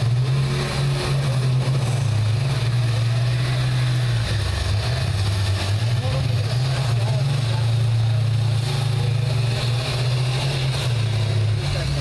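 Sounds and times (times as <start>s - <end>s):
bus engines droning: 0.0s - 12.0s.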